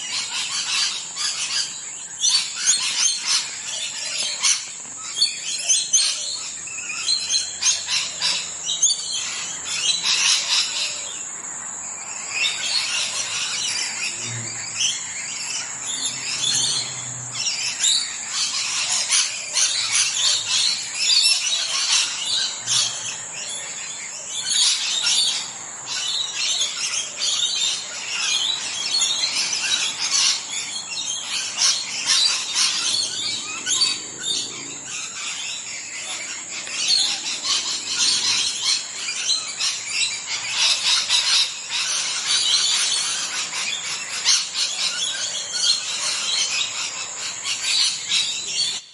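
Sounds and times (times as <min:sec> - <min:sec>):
parrots calling: 0:00.0 - 0:48.9.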